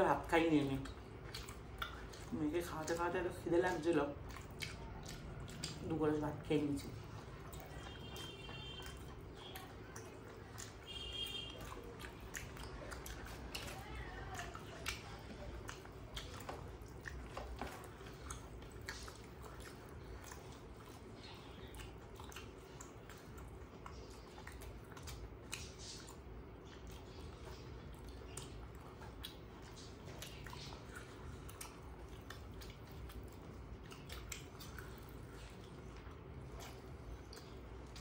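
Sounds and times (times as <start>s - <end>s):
wet chewing: 0.0s - 38.0s.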